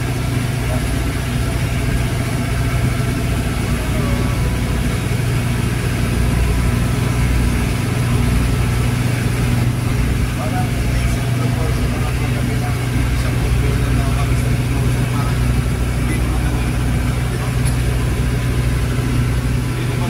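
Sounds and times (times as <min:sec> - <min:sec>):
boat engine drone: 0:00.0 - 0:20.0.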